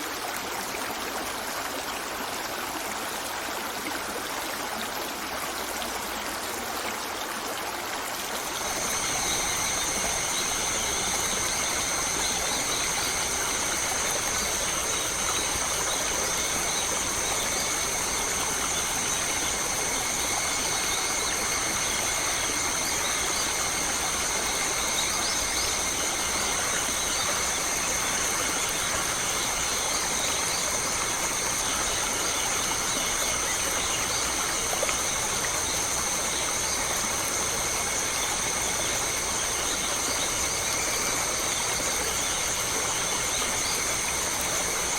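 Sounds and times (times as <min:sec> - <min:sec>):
stream water rushing: 0:00.0 - 0:44.9
high-pitched drone: 0:08.4 - 0:44.9.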